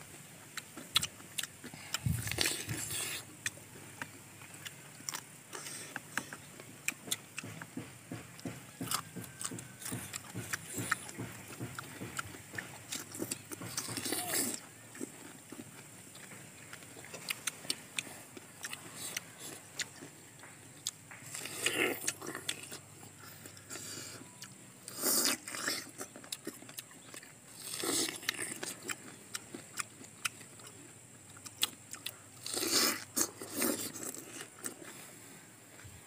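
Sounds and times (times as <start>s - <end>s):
wet chewing clicks and smacks: 0.4s - 35.0s
crunching bites: 0.6s - 35.0s.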